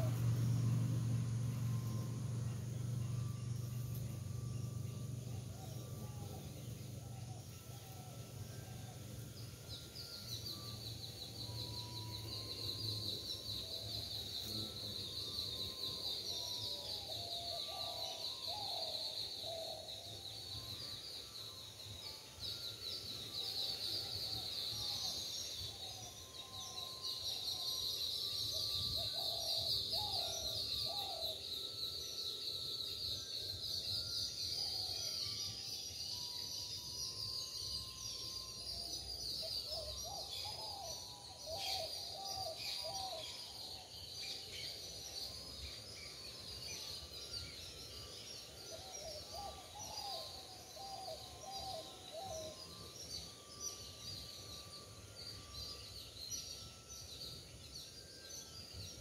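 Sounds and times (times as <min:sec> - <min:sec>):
steady high-pitched drone: 0:00.0 - 0:59.0.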